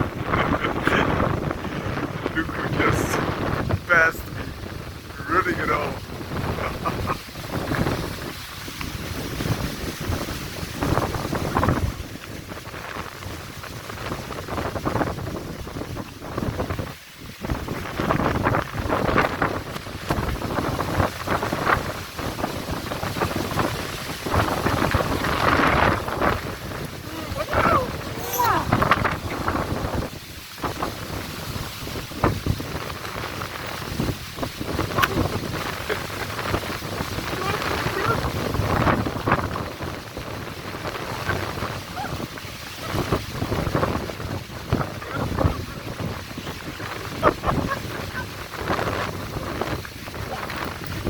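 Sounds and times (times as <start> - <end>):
wind rumbling on microphone: 0.0 - 51.0
wind rushing through trees: 0.0 - 51.0.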